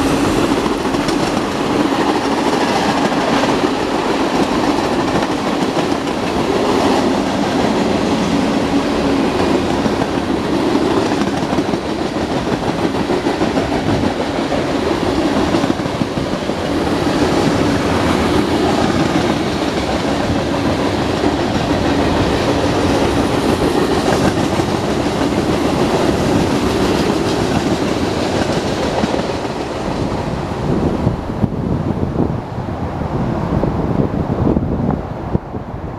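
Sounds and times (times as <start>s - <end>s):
wheels clacking over rail joints: 0.0s - 30.0s
train wheels rumbling on rail: 0.0s - 35.9s.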